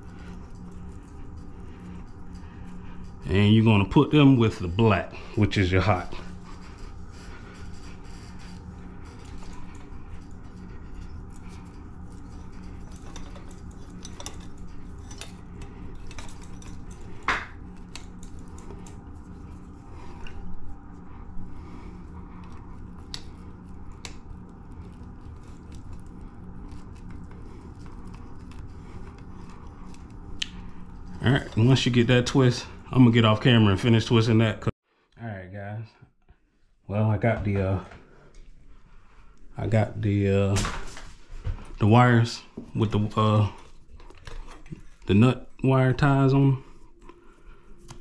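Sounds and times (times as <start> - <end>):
electrical wires being twisted: 0.0 - 34.2, 39.4 - 48.0
steady low hum: 0.0 - 48.0.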